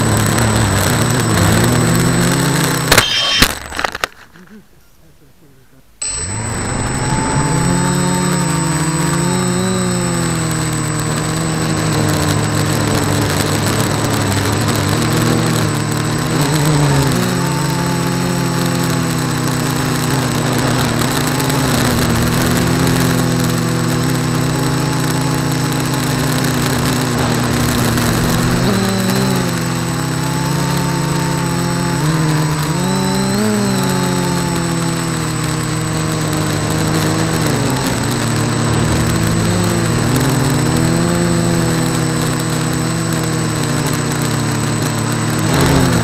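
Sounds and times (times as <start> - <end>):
drone propellers buzzing: 0.0 - 4.2, 6.0 - 46.0.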